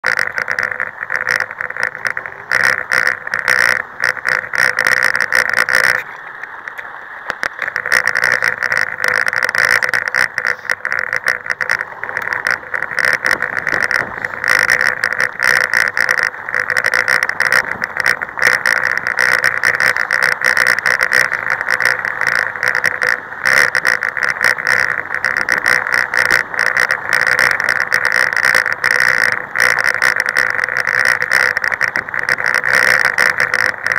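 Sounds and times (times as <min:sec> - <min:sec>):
motorbike running on rough track: 0:00.0 - 0:33.9.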